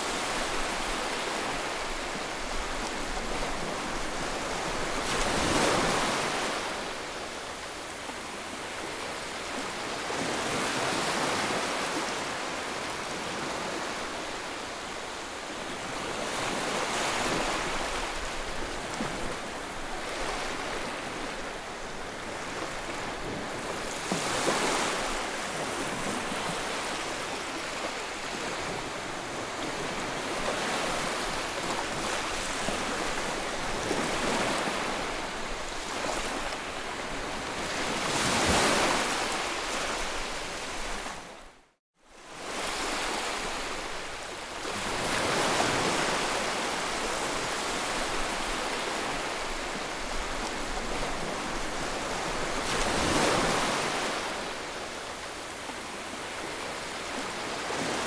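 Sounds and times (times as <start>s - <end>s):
ocean waves breaking: 0.0s - 7.3s, 15.8s - 41.4s, 42.4s - 58.0s.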